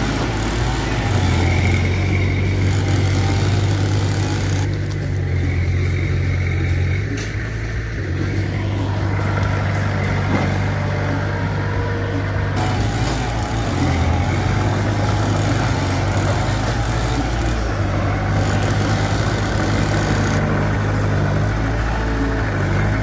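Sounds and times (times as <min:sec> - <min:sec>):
bulldozer diesel engine droning: 0:00.0 - 0:23.0.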